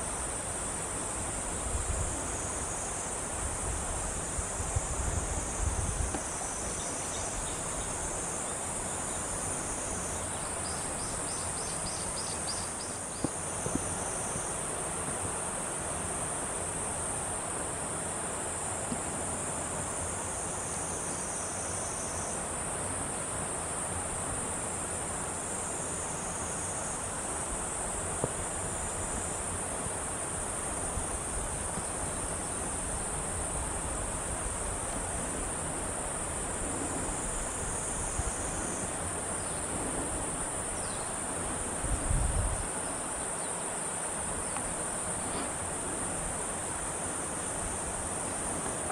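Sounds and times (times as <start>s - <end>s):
insects buzzing high: 0.0s - 48.9s
lower insect call: 0.0s - 48.9s.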